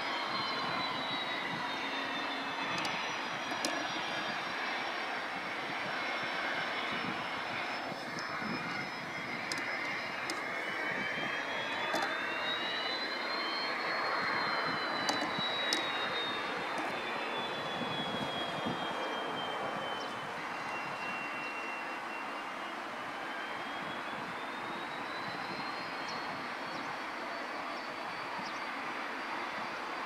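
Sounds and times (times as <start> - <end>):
high engine whine: 0.0 - 30.0
turboprop engines roaring: 0.0 - 30.0.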